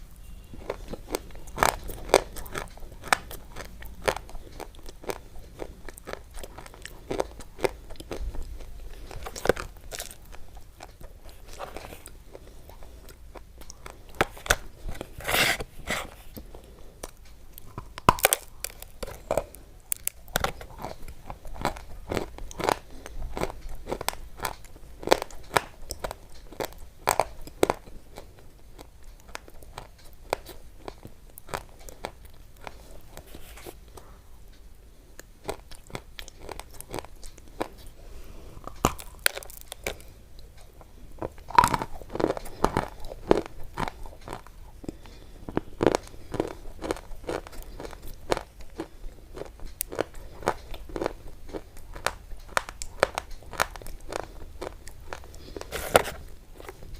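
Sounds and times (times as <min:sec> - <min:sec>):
close-up crunching: 0:00.0 - 0:56.9.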